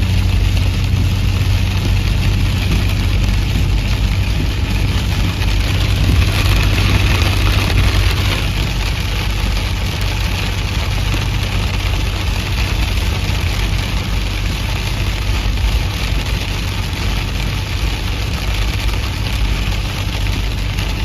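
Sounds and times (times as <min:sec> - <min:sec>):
tyres hissing on wet road: 0:00.0 - 0:21.0
vehicle engine hum: 0:00.0 - 0:21.0.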